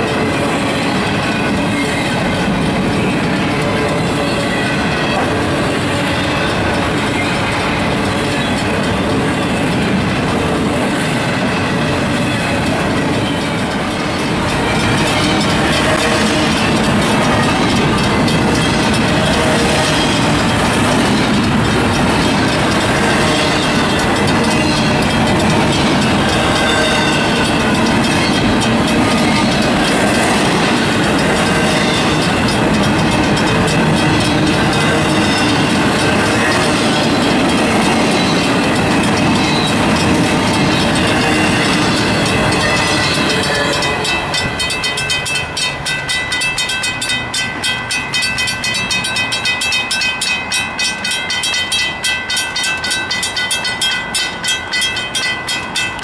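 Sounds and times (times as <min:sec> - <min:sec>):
crossing signal bell ringing: 0:00.0 - 0:56.0
train wheels clattering over rails: 0:00.0 - 0:56.0.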